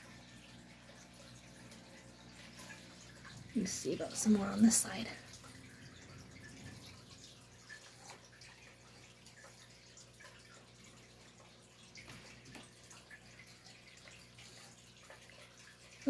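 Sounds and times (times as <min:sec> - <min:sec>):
aquarium water trickling: 0:00.0 - 0:16.0
low steady hum: 0:00.0 - 0:16.0.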